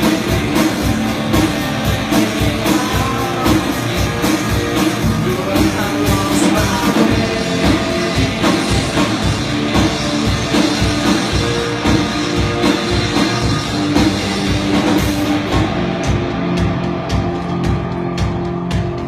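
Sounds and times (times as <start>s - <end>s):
drum beat: 0.0s - 19.0s
guitar chords: 0.0s - 19.0s.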